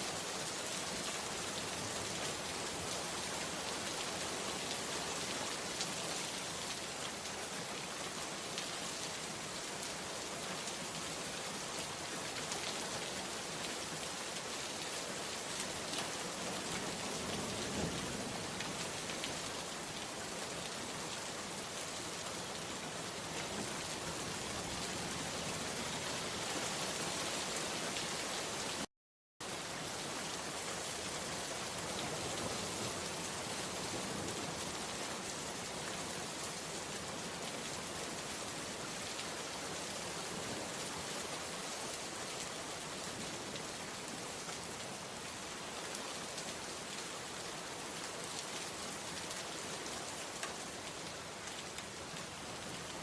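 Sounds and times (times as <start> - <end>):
steady rain patter: 0.0 - 53.0.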